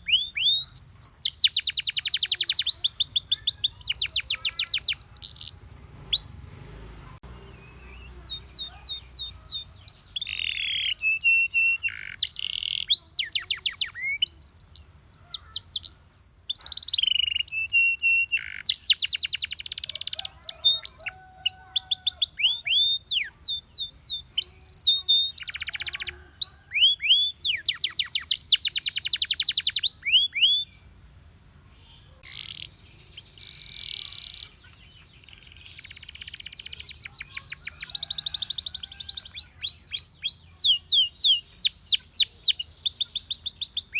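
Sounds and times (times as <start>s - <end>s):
canary singing: 0.0s - 31.2s, 31.8s - 43.9s.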